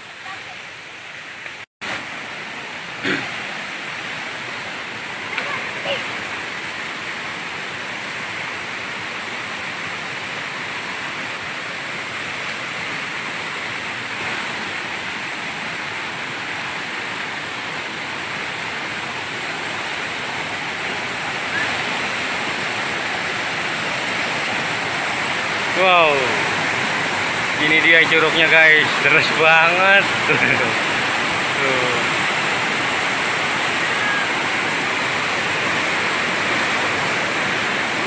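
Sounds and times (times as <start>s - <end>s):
river rushing over boulders: 0.0s - 38.0s.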